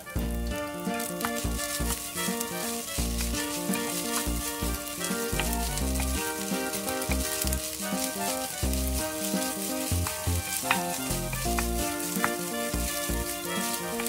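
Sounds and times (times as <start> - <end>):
background music with bass: 0.0 - 14.0
rice sizzling in oil: 0.0 - 14.0
wooden spatula scraping pan: 0.0 - 14.0.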